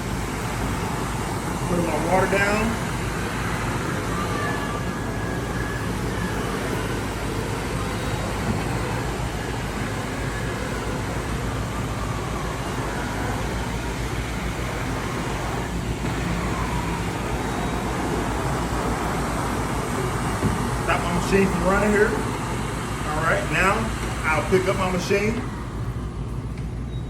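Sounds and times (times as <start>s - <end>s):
floor scrubber motors humming: 0.0s - 27.0s.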